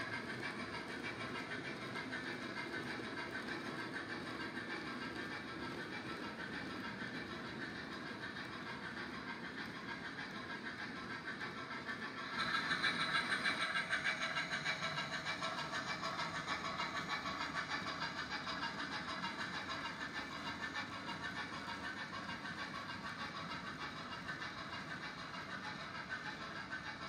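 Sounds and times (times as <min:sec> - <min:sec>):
model train wheels clicking on rails: 0:00.0 - 0:27.0.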